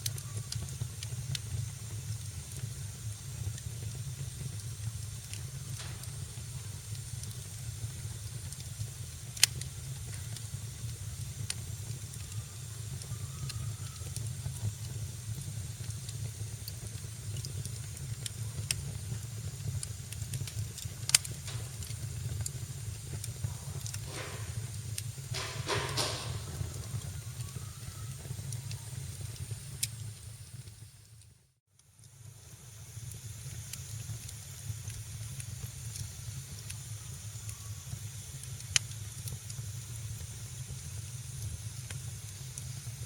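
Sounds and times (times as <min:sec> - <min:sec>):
sharp pops of fire: 0:00.0 - 0:31.0, 0:32.1 - 0:43.0
low rumble and hiss: 0:00.0 - 0:43.0
wood fire crackling: 0:00.0 - 0:43.0.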